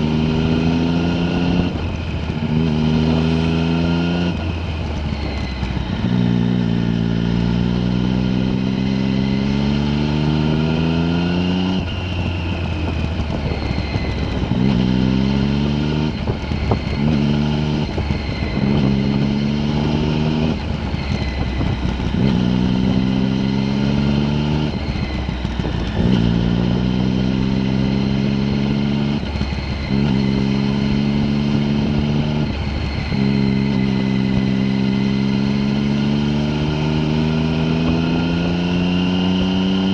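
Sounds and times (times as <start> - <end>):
vehicle engine accelerating: 0.0 - 39.9.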